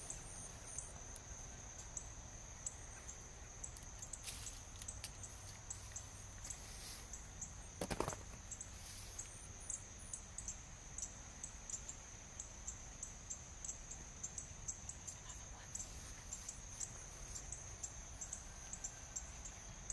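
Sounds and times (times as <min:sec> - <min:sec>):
insect chirping trill: 0:00.0 - 0:19.9.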